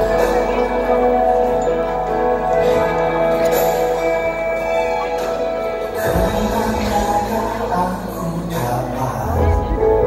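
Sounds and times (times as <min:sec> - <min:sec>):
slow keyboard chords: 0:00.0 - 0:10.0.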